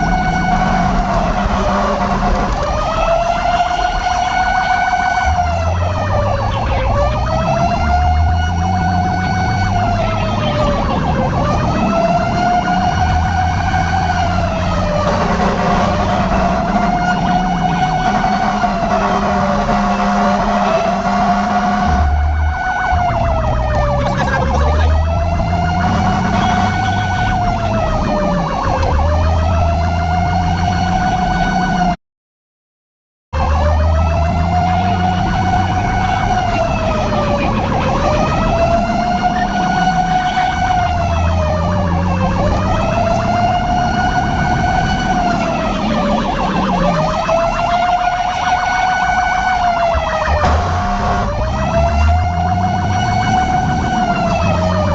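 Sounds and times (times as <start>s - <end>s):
emergency vehicle siren wailing: 0.0s - 32.0s, 33.3s - 54.9s.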